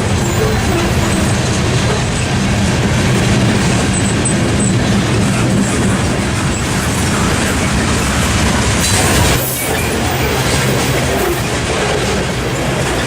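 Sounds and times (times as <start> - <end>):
freight train rumbling over rails: 0.0 - 13.0.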